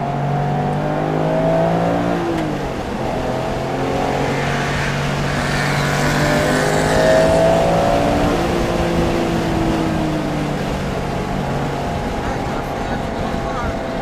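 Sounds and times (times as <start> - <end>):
car engine running hard: 0.0 - 14.0
road and wind noise: 0.0 - 14.0.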